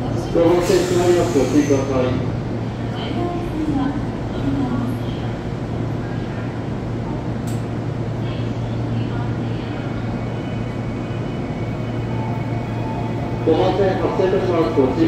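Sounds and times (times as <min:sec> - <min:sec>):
electric train hum: 0:00.0 - 0:15.0.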